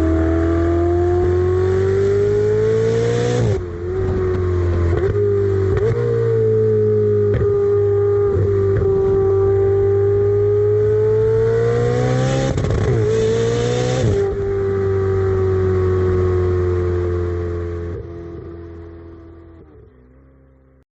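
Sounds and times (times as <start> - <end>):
car engine revving high: 0.0 - 19.5.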